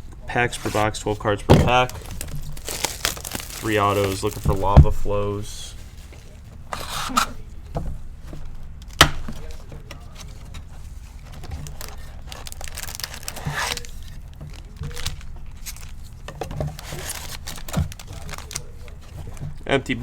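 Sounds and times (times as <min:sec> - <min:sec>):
cardboard being handled: 0:00.4 - 0:19.6
wrapping tearing and crinkling: 0:00.5 - 0:07.4, 0:08.8 - 0:19.6.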